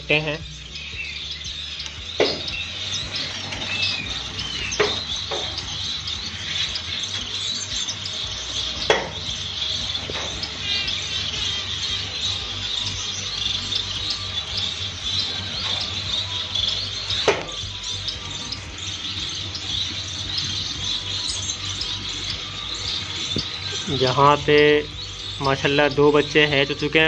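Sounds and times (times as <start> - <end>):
finches chirping: 0.0 - 27.0
steady low hum: 0.0 - 27.0.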